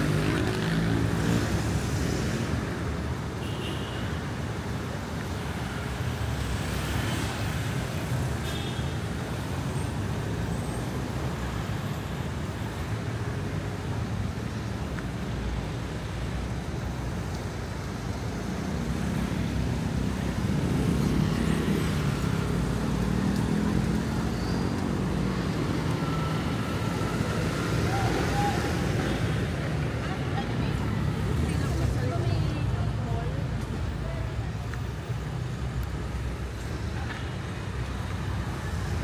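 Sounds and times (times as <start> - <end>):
cars passing: 0.0 - 3.3, 4.3 - 39.0.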